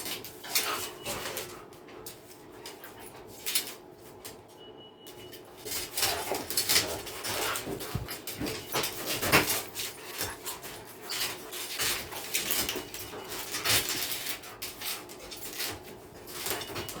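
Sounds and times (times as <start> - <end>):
dogs scuffling: 0.0 - 17.0.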